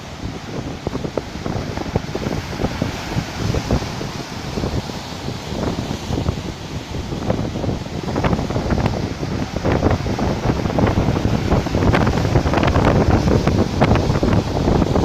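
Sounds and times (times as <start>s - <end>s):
sea waves breaking: 0.0s - 15.0s
wind rumbling on microphone: 0.0s - 15.0s.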